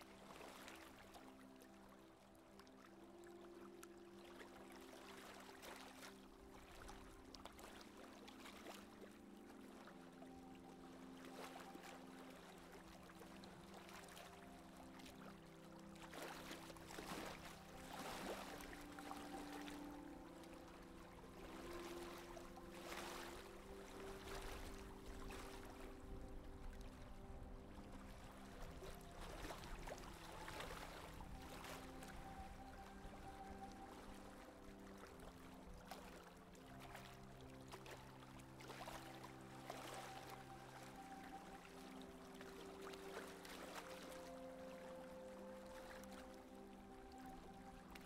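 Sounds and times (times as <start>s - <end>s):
water splashing along hull: 0.0s - 48.0s.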